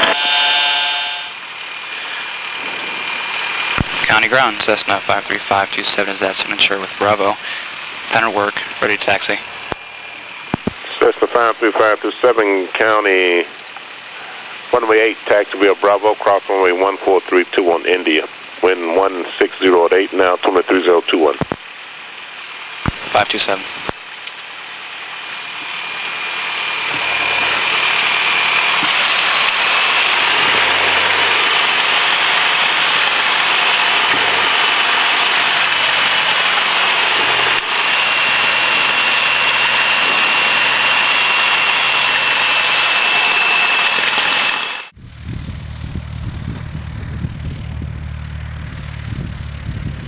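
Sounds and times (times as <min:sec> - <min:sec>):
aircraft engine and propeller: 0:00.0 - 0:50.0
light aircraft taxiing past: 0:00.0 - 0:50.0.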